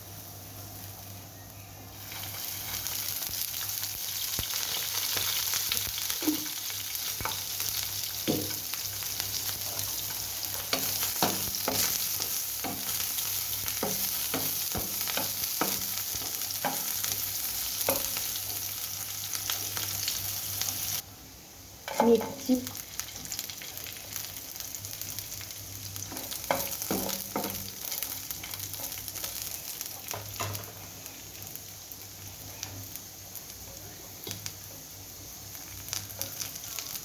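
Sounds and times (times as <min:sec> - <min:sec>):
onion sizzling in hot oil: 0:00.0 - 0:37.0.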